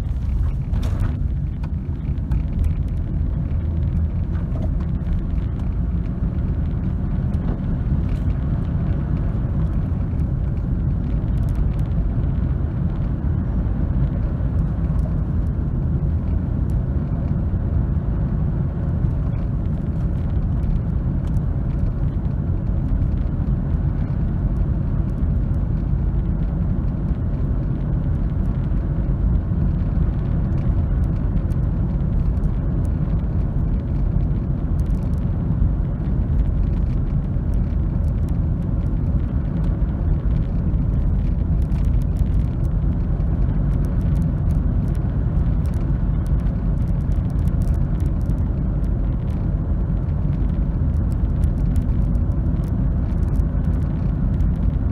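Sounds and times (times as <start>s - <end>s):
car engine and tyres rumbling: 0.0s - 54.9s.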